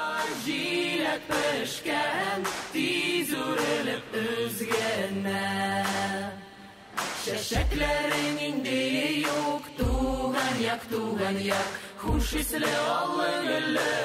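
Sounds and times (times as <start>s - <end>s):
chant-like singing: 0.0s - 14.0s.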